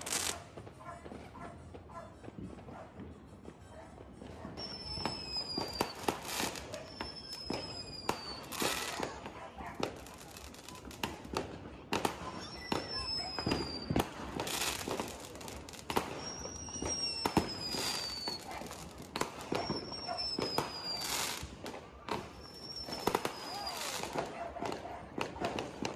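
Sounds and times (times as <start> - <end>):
fireworks whistling: 0.0 - 0.6, 4.6 - 25.9
fireworks popping and banging: 0.0 - 25.9.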